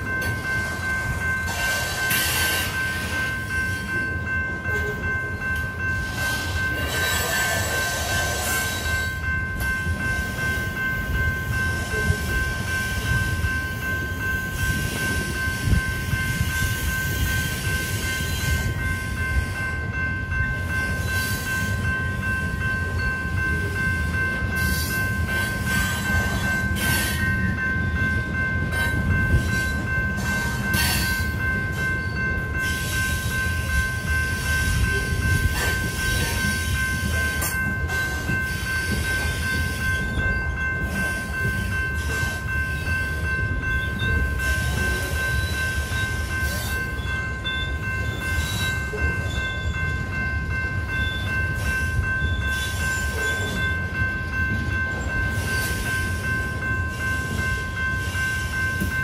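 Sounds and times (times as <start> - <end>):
crossing bell ringing: 0.0 - 59.0
freight train wheels rumbling: 0.0 - 59.0.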